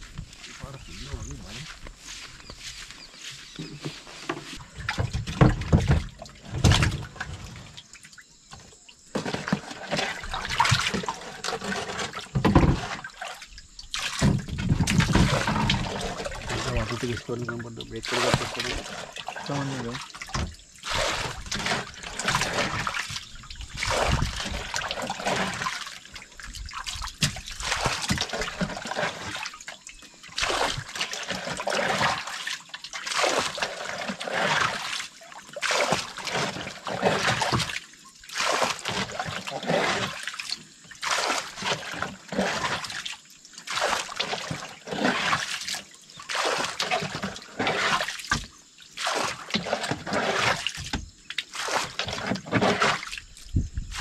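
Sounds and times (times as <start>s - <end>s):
water splashing from scoop: 3.6s - 54.0s.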